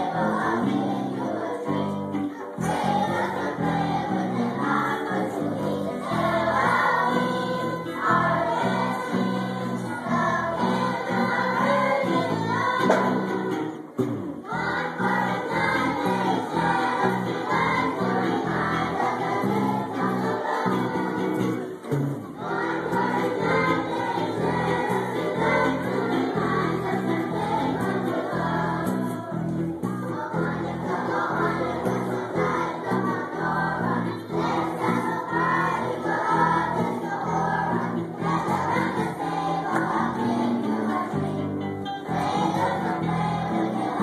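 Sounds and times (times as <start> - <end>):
children's choir singing: 0.0 - 44.0
violins playing: 0.0 - 44.0.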